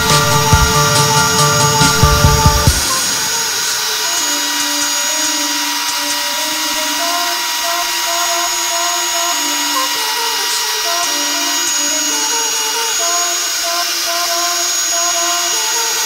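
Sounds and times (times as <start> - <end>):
brush dryer blowing hiss: 0.0 - 16.0
faint motor whine: 0.0 - 16.0.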